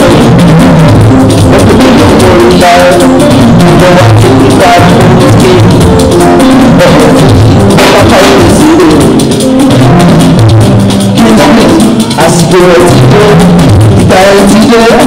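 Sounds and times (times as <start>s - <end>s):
person singing into microphone: 0.0s - 10.2s, 11.1s - 15.0s
drum kit beat: 0.0s - 15.0s
talking drum beat: 0.0s - 15.0s.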